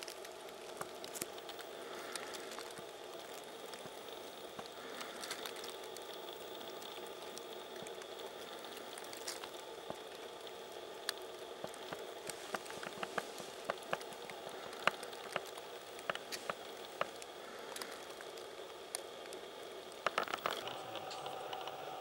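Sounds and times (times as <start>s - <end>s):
small ticks and crackles: 0.0s - 22.0s
steady forest hiss: 0.0s - 22.0s.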